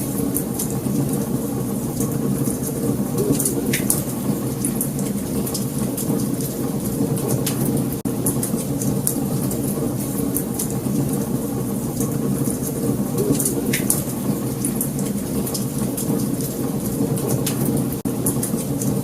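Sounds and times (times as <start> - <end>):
fire crackling and popping: 0.0 - 19.0
fire roaring: 0.0 - 19.0.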